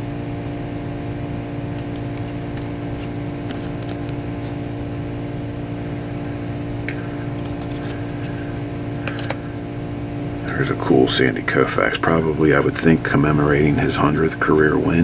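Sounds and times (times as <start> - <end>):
steady droning hum: 0.0 - 15.0.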